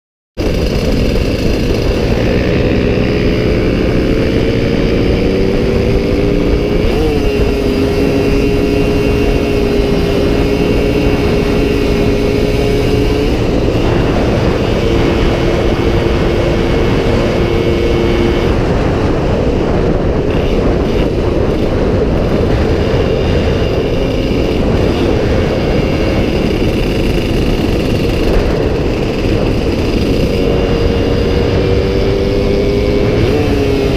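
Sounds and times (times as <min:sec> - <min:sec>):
motorcycle engines at high revs: 0:00.4 - 0:33.9
rush of wind or road noise: 0:00.4 - 0:33.9.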